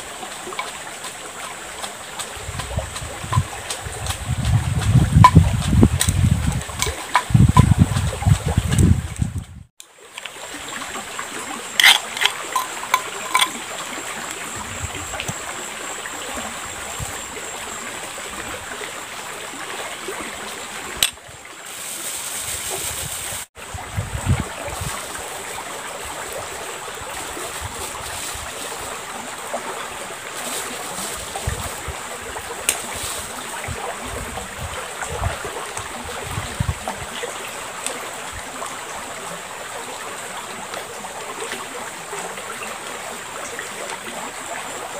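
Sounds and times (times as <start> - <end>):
shallow river flowing: 0.0 - 4.2, 9.8 - 44.9.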